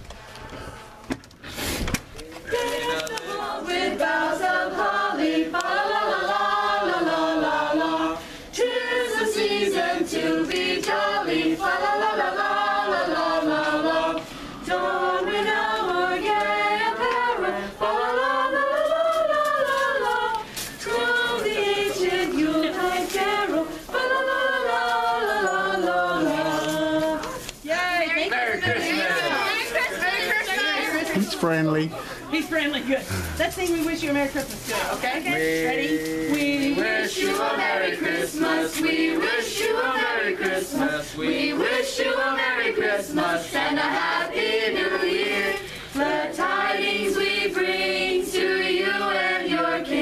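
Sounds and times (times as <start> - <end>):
group singing a cappella: 2.4 - 31.4, 34.7 - 50.0.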